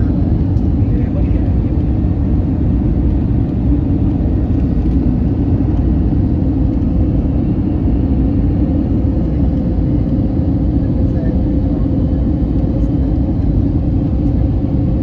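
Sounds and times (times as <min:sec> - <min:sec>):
airplane engine and airflow rumble: 0:00.0 - 0:15.0.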